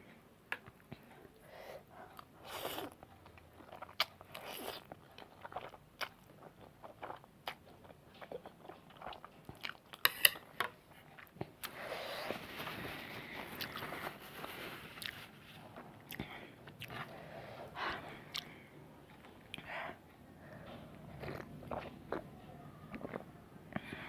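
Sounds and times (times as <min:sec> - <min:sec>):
person chewing noodles: 0:00.6 - 0:19.9, 0:21.0 - 0:22.3, 0:22.9 - 0:23.2.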